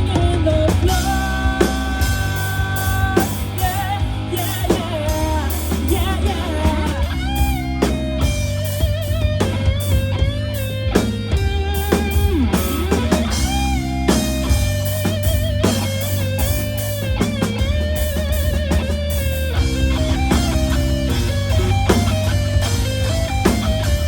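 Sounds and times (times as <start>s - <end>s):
bass guitar: 0.0s - 24.0s
drum kit: 0.0s - 24.0s
electric guitar lead: 0.0s - 24.0s.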